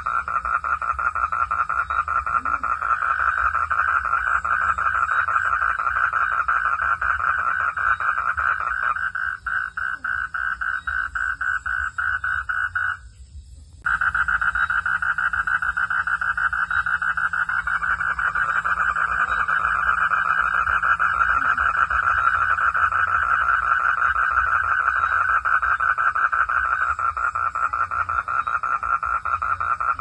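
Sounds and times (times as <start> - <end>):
frogs trilling: 0.0 - 30.0
low steady hum: 0.0 - 30.0.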